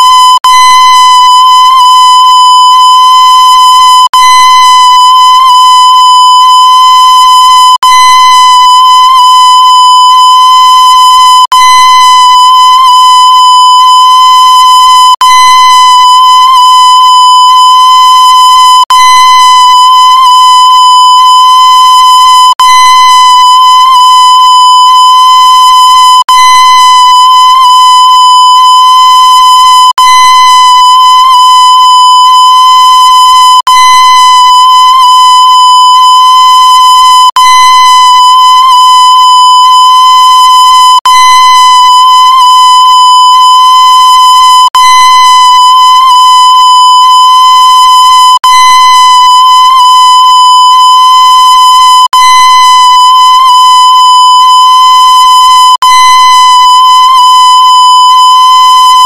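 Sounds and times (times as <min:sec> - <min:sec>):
distorted electronic beep: 0:00.0 - 0:59.0.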